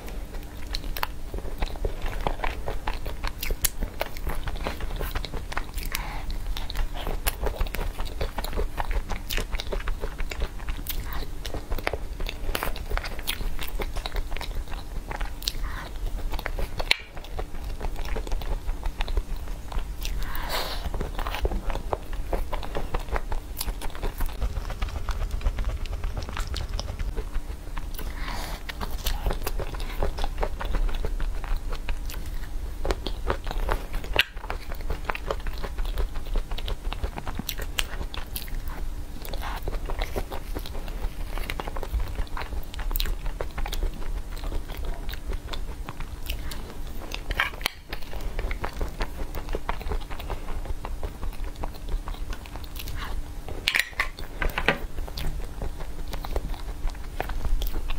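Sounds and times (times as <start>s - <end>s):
wet chewing and mouth smacks: 0.0s - 57.9s.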